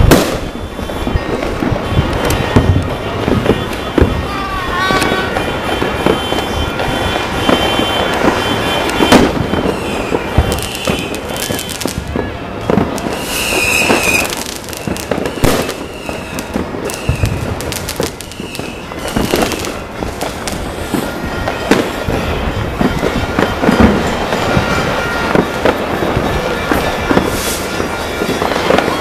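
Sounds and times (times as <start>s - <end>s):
fireworks and firecrackers banging: 0.0s - 29.0s.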